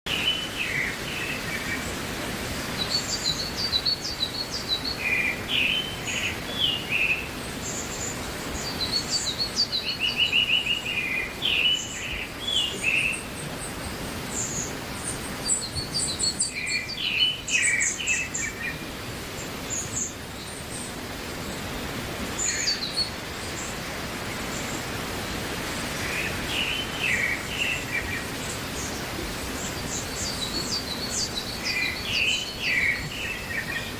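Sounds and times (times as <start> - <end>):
birds singing and chirping: 0.1 - 33.9
steady background hiss: 0.1 - 33.9.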